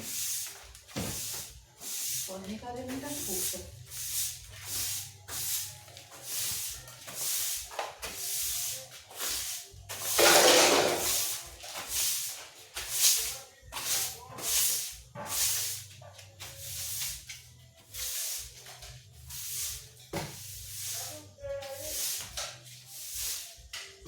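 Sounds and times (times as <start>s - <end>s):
broom sweeping a floor: 0.0s - 24.0s.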